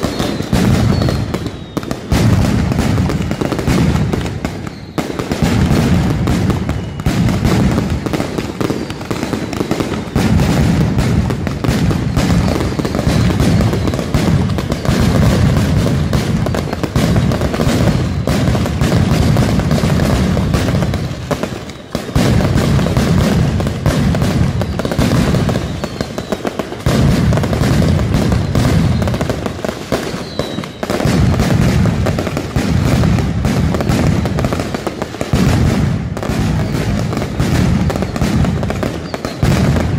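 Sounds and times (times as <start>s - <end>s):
firecrackers banging and crackling: 0.0s - 39.9s.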